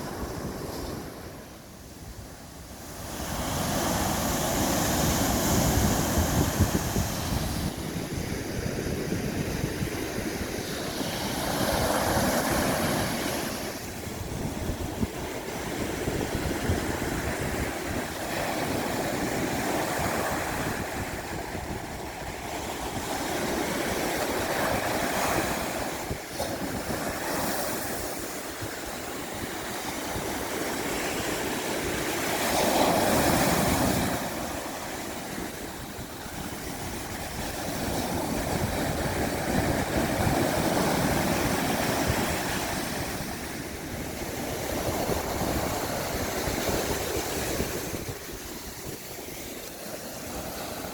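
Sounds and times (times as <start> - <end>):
sea waves breaking on beach: 0.0 - 50.9.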